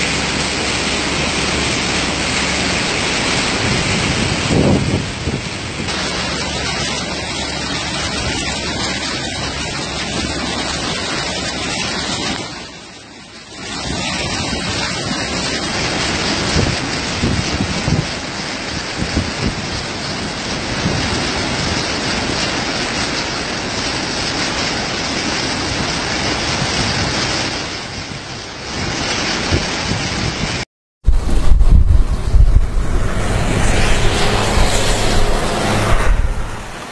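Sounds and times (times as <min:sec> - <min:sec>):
rain: 0:00.0 - 0:36.9
wind: 0:00.0 - 0:36.9.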